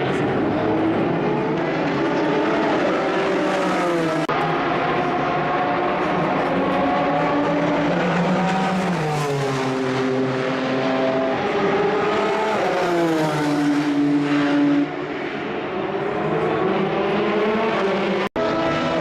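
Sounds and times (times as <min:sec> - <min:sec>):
race car engines at speed: 0:00.0 - 0:19.0.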